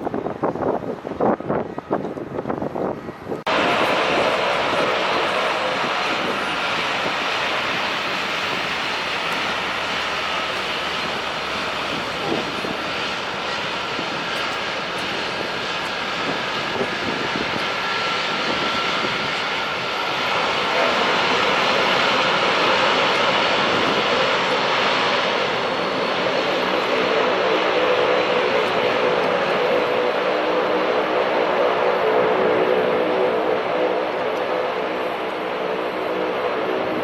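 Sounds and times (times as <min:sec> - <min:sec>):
airliner engines at takeoff power: 0:00.0 - 0:37.0
wind buffeting microphone: 0:00.0 - 0:37.0.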